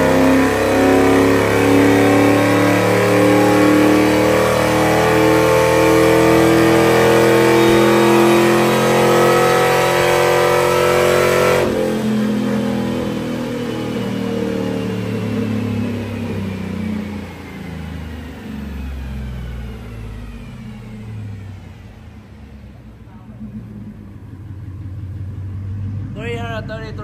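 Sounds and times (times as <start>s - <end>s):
engine running at high revs: 0.0s - 27.0s.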